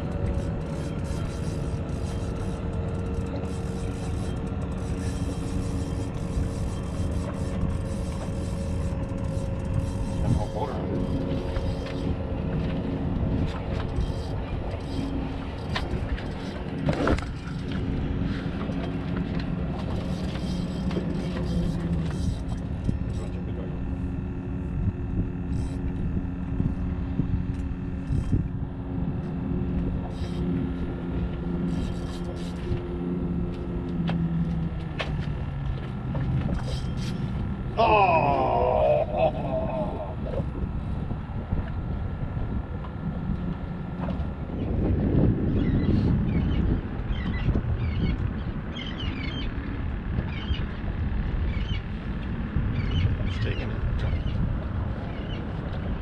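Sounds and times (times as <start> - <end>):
boat engine running: 0.0 - 56.0
wind rumbling on microphone: 0.0 - 56.0.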